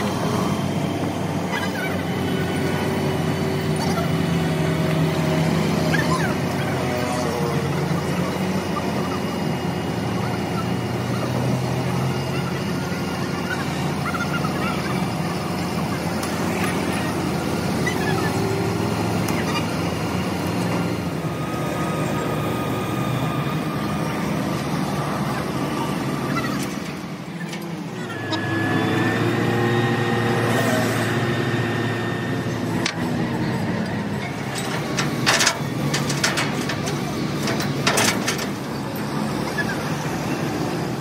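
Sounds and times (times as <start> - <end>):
vehicle engine running: 0.0 - 41.0.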